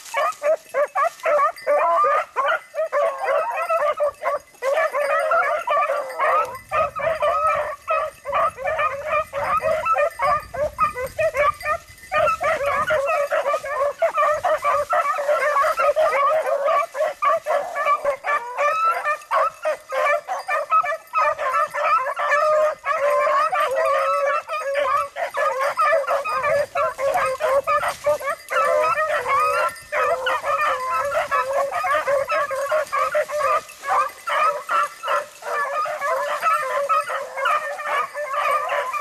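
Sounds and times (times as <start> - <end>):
hounds baying and yelping: 0.0 - 39.0.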